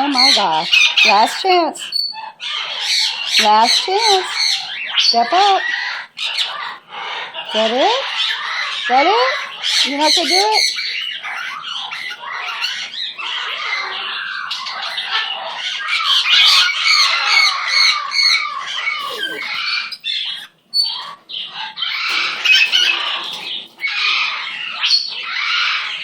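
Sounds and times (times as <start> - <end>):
parrot squawking and chattering: 0.0 - 26.0.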